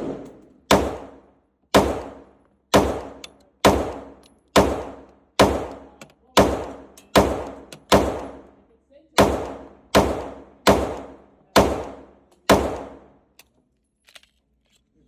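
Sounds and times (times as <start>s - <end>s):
pistol shots with echo: 0.0s - 8.6s, 9.2s - 13.2s.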